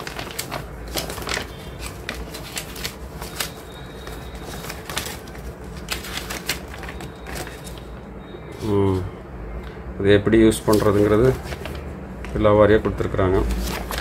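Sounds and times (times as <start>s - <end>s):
paper pages rustling: 0.0s - 9.1s, 10.5s - 14.0s.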